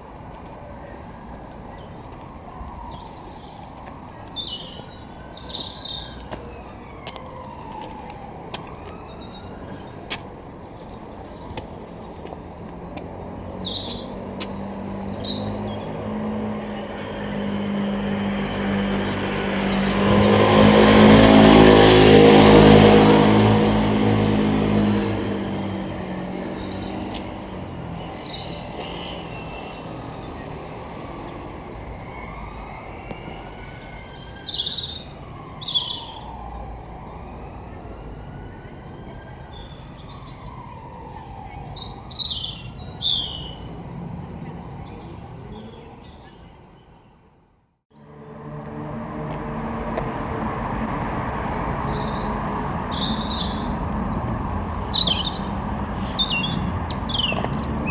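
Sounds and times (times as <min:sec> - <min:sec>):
songbirds chirping: 0:00.0 - 0:48.2, 0:50.5 - 0:57.9
road vehicle driving past: 0:02.2 - 0:46.8, 0:47.9 - 0:57.9.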